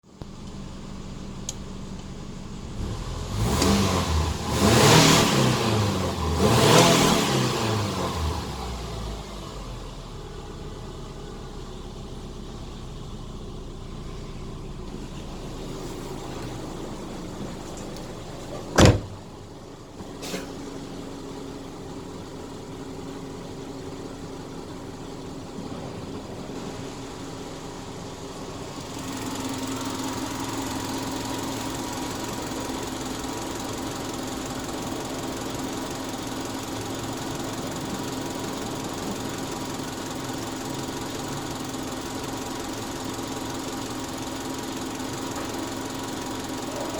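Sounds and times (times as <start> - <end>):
car engine idling: 0.1 - 46.9.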